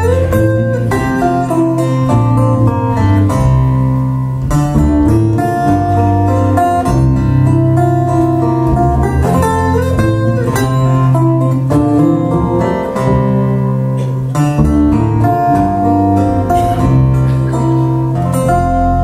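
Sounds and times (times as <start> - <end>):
acoustic guitars playing: 0.0 - 19.0.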